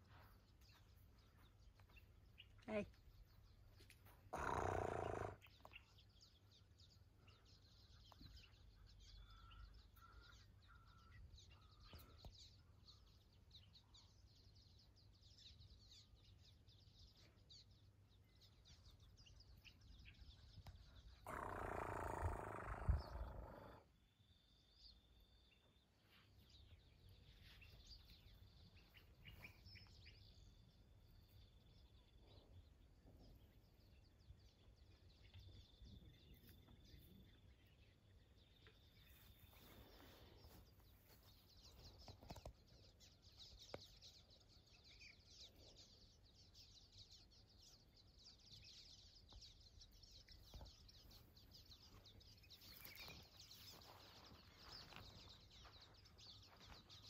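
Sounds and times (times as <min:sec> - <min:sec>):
faint bird chirps: 0:00.0 - 0:57.0.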